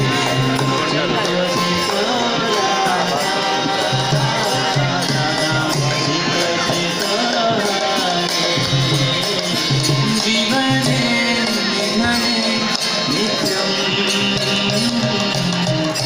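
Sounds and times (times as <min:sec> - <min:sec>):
devotional singing: 0:00.0 - 0:16.0
jingling hand percussion: 0:00.0 - 0:16.0.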